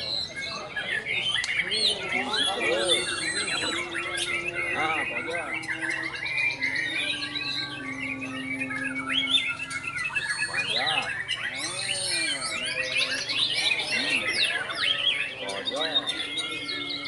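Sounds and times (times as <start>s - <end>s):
bird singing varied whistles: 0.0s - 17.0s.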